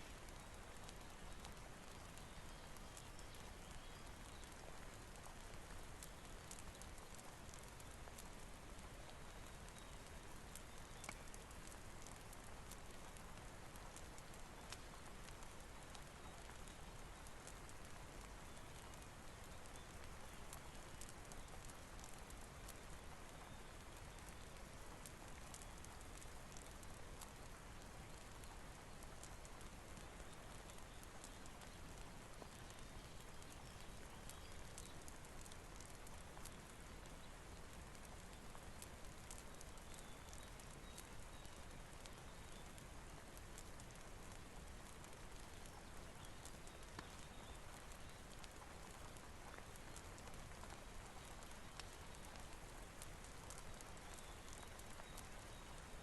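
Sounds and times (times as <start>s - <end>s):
rain hiss: 0.0s - 56.0s
wood fire crackling and popping: 0.0s - 56.0s.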